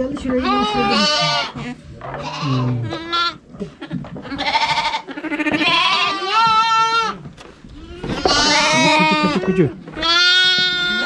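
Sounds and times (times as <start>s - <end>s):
lambs bleating: 0.2s - 3.4s, 4.2s - 7.2s, 7.8s - 11.0s.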